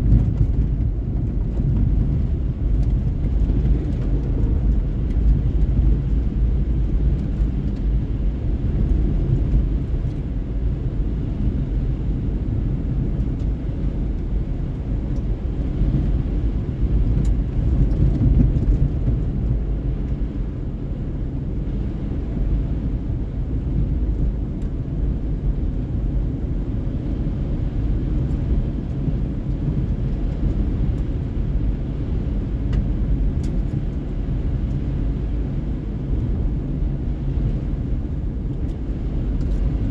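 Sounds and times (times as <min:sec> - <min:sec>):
car driving: 0:00.0 - 0:39.9.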